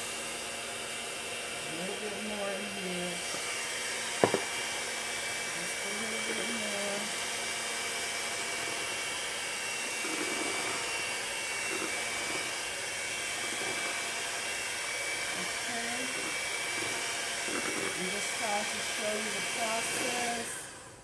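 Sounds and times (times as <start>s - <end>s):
electric hand mixer whirring: 0.0s - 21.0s.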